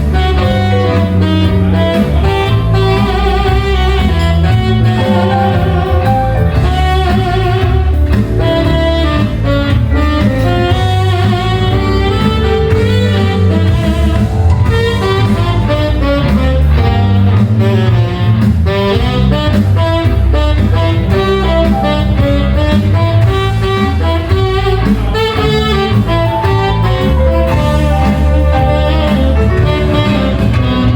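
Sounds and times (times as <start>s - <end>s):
instrumental music with heavy bass: 0.0s - 30.9s.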